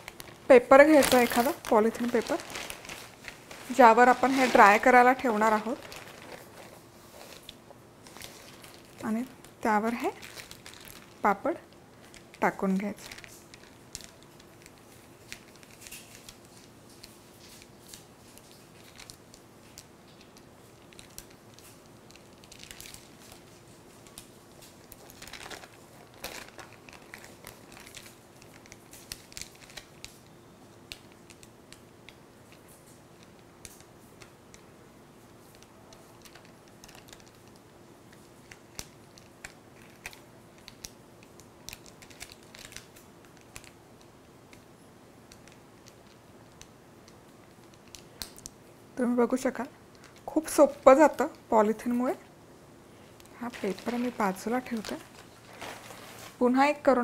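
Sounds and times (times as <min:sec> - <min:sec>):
plastic sheet crinkling: 0:00.0 - 0:52.2, 0:53.1 - 0:56.9
faint steady hum: 0:00.0 - 0:57.0.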